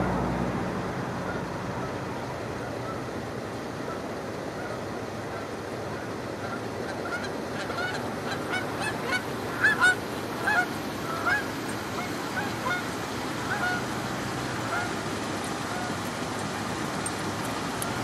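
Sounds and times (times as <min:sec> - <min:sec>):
steady background hiss: 0:00.0 - 0:18.0
geese honking: 0:02.6 - 0:03.1, 0:03.8 - 0:18.0.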